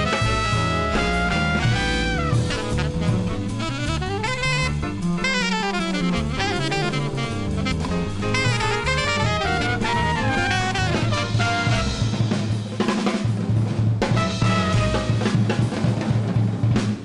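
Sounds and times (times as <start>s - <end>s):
up-tempo jazz music: 0.0s - 17.0s.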